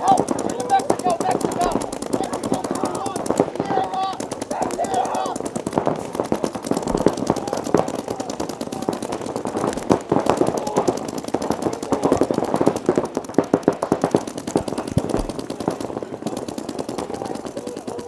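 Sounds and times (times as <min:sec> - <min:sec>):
paintball markers firing: 0:00.0 - 0:18.0.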